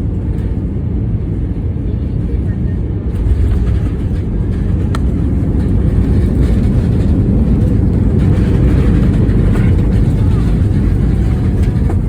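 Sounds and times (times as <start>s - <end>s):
jet airliner rumble: 0.0s - 12.0s.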